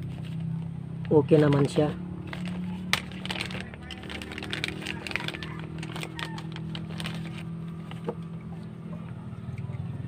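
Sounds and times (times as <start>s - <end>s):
plastic bag crinkling: 0.0s - 8.2s
low steady hum: 0.0s - 10.0s.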